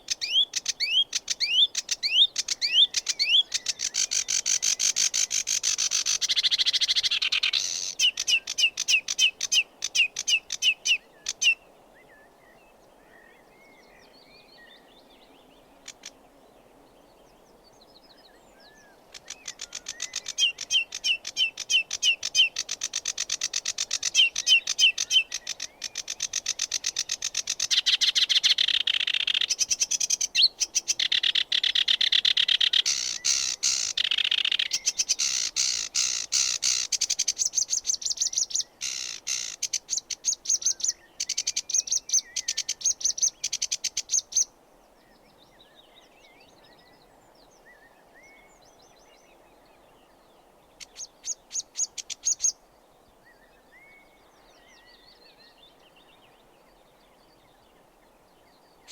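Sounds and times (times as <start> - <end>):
warbler singing: 0.0 - 11.6, 12.2 - 52.6
faint bird calls: 0.0 - 16.4, 18.1 - 58.9.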